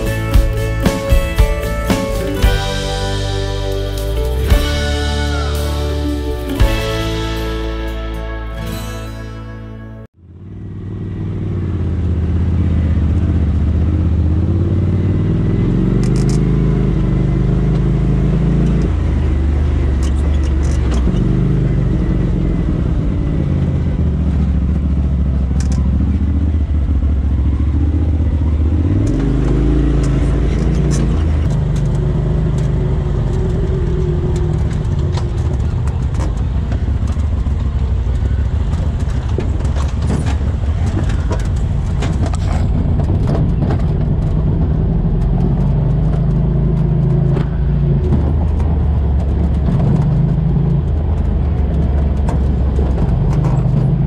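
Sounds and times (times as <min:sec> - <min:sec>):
off-road vehicle engine revving: 0:10.4 - 0:54.0.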